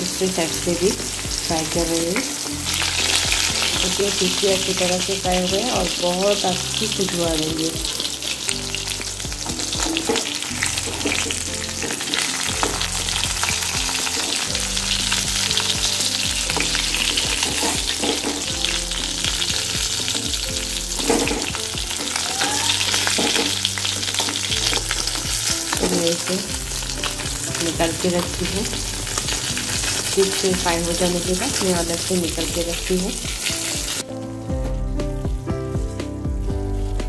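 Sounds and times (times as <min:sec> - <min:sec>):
fish sizzling in hot oil: 0:00.0 - 0:37.0.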